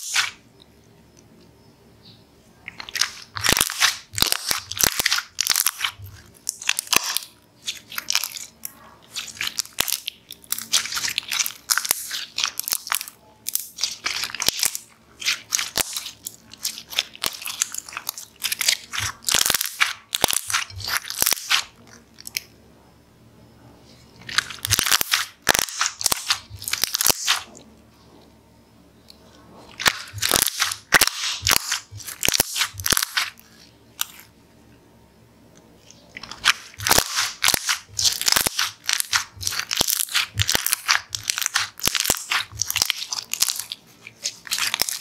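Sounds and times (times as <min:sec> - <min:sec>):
slime clicking and crackling: 0:00.0 - 0:00.4, 0:02.7 - 0:22.5, 0:24.2 - 0:27.6, 0:29.7 - 0:34.3, 0:35.8 - 0:45.0.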